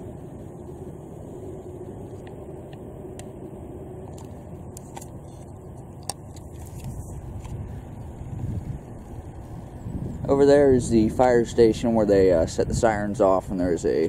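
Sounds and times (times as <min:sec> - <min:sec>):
faint steady tone: 0:00.0 - 0:14.0
low road traffic rumble: 0:00.0 - 0:14.0.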